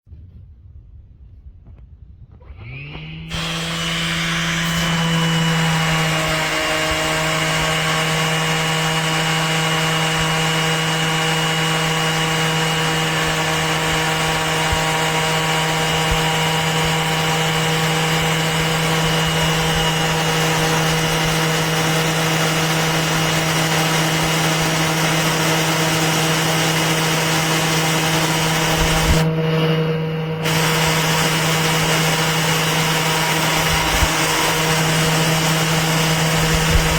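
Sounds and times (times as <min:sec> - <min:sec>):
sander motor humming: 0:02.4 - 0:36.9
scratchy sanding on wood: 0:03.3 - 0:29.3, 0:30.4 - 0:36.9.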